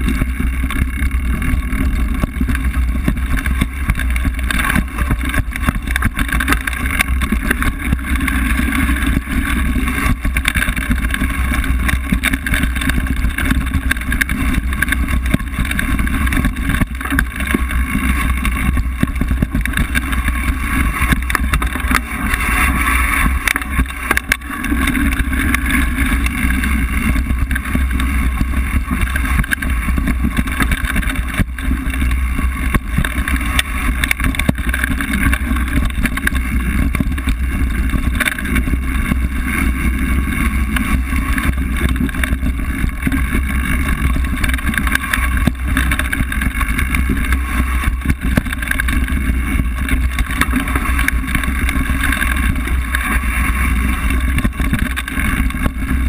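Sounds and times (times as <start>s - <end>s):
bike rattling and knocking: 0.0s - 56.0s
wind rush and rumble on microphone: 0.0s - 56.0s.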